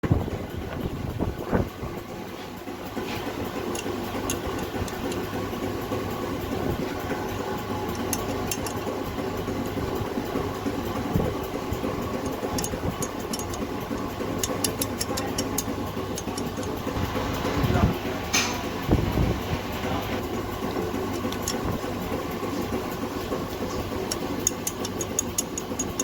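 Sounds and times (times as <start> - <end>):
car engine drone: 0.0 - 26.0.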